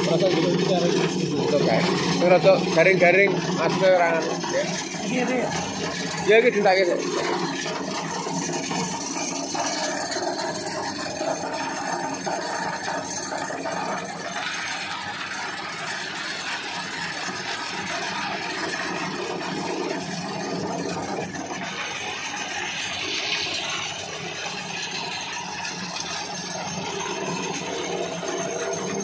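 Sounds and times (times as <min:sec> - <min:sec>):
electric grinder grinding: 0:00.0 - 0:29.0.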